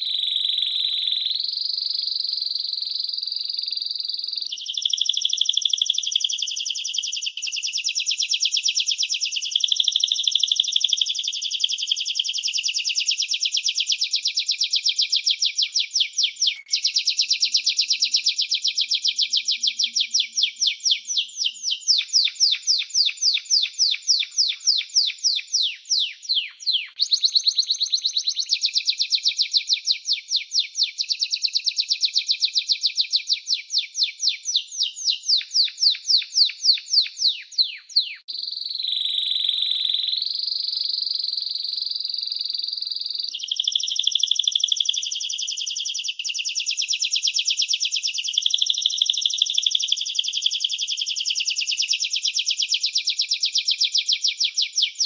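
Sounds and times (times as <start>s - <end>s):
canary singing: 0.0s - 10.1s, 10.8s - 55.0s.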